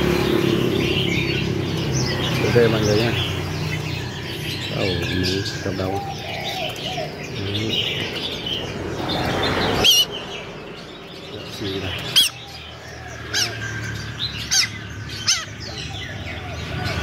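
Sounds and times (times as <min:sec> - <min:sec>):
songbirds chirping and twittering: 0:00.0 - 0:17.0.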